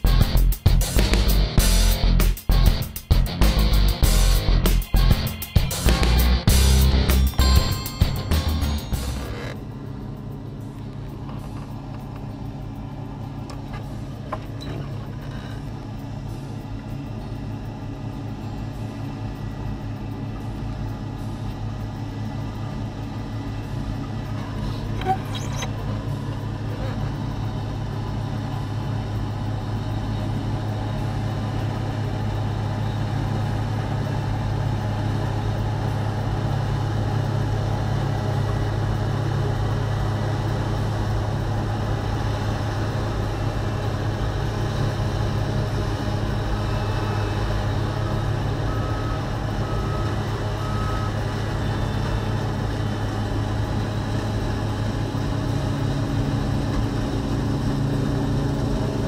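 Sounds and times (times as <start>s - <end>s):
combine harvester engine: 0.0s - 59.0s
tractor diesel engine drone: 0.0s - 59.0s.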